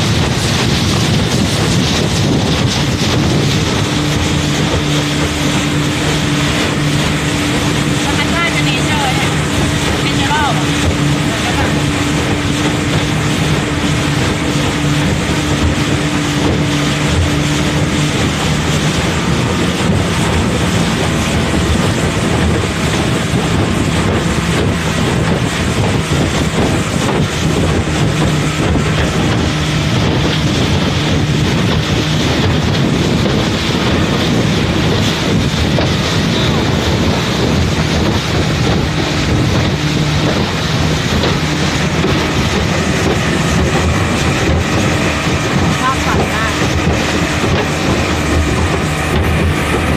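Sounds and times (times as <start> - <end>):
motorboat engine humming: 0.0 - 49.9
wind buffeting microphone: 0.0 - 49.9.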